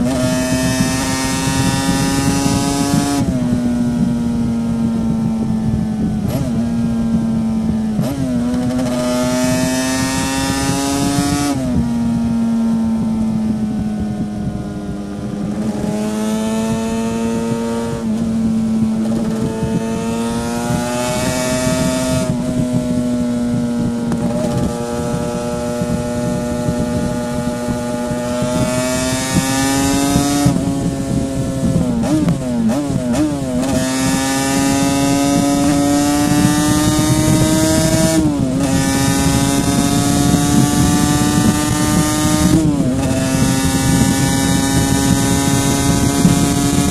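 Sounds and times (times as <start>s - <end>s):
two-stroke motorcycle engine: 0.0s - 46.9s.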